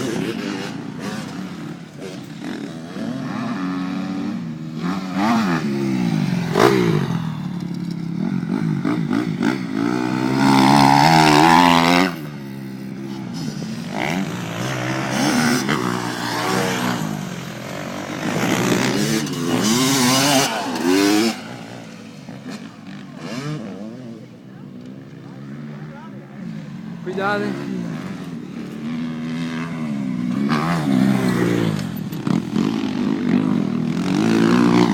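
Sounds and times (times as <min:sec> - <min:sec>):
dirt bike engine revving: 0:00.0 - 0:24.3, 0:25.4 - 0:34.9.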